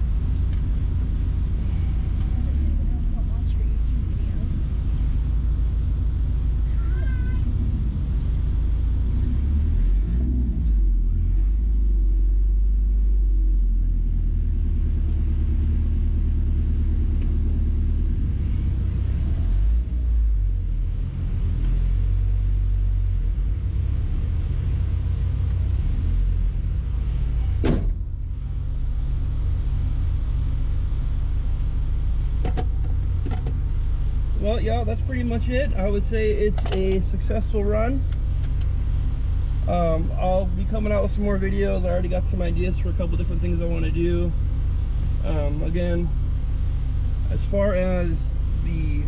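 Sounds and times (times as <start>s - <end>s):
pickup engine rumbling: 0.0s - 49.0s.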